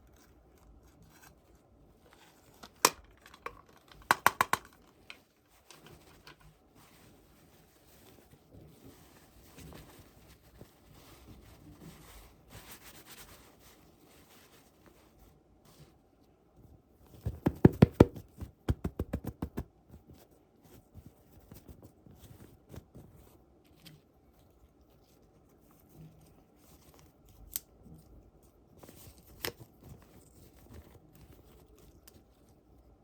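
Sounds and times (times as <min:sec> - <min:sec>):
soft taps and rustles: 0:00.0 - 0:27.4.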